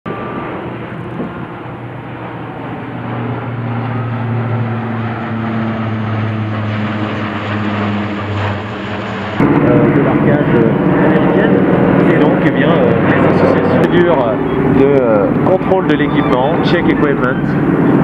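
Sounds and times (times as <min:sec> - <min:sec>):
propeller plane droning overhead: 0:00.0 - 0:18.0.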